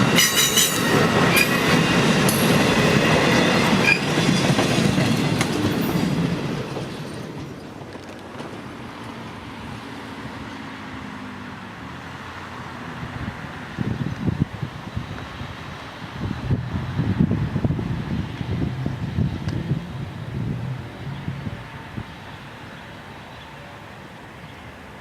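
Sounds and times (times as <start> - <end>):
train wheels rumbling on rails: 0.0 - 10.6, 12.9 - 23.3.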